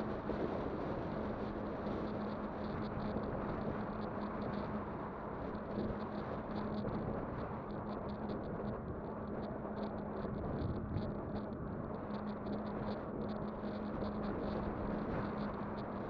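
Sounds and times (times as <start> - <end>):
wind and tyre noise: 0.0 - 16.0.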